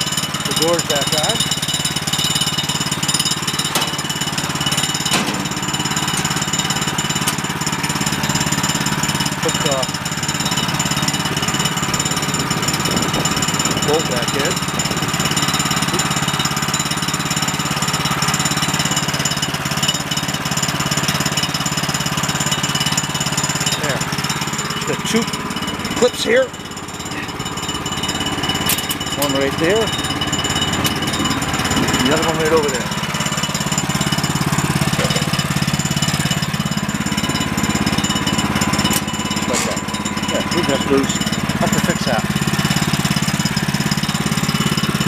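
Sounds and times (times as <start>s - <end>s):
gasoline engine running steadily: 0.0s - 45.0s.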